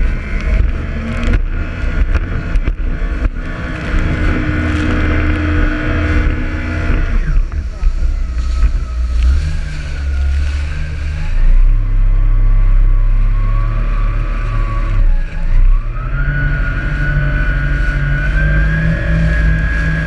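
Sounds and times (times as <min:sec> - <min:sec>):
jet ski engine whine: 0:00.0 - 0:20.0.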